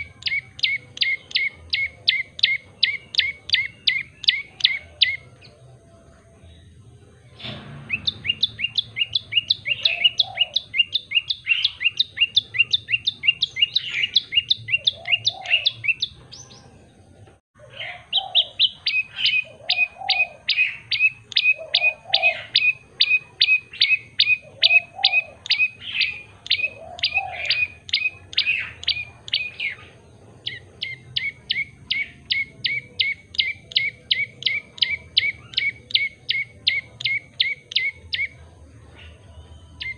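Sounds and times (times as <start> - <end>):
bird singing sharp chirps: 0.0 - 5.6, 6.5 - 17.0, 17.8 - 39.9.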